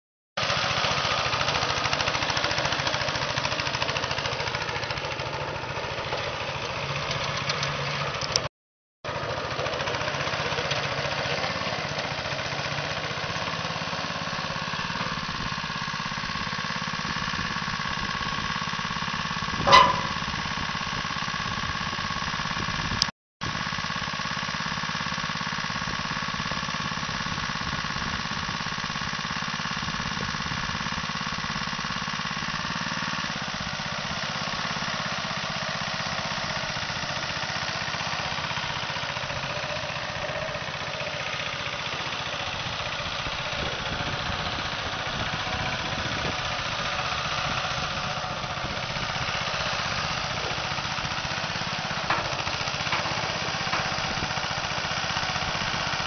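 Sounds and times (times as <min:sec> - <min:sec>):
small petrol engine running: 0:00.4 - 0:56.0.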